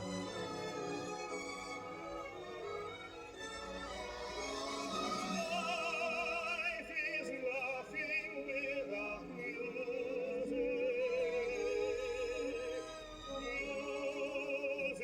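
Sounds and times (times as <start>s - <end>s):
operatic singing with orchestra: 0.0s - 15.0s.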